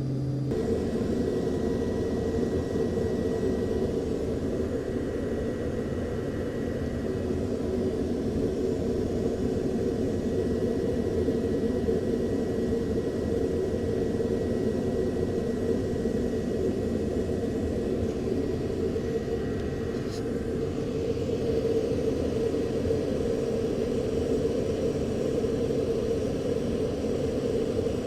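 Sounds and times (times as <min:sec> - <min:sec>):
aircraft engine drone: 0:00.0 - 0:28.0
faint constant whine: 0:00.0 - 0:28.0.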